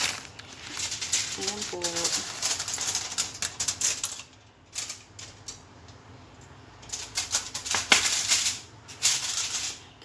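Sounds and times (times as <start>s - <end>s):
rustling and crinkling: 0.0s - 10.0s.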